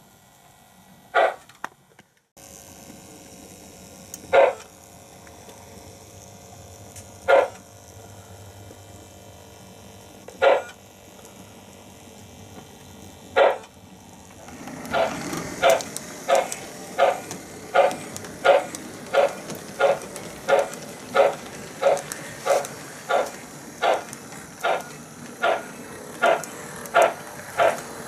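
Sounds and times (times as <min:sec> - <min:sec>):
model locomotive hum: 0:00.0 - 0:28.0.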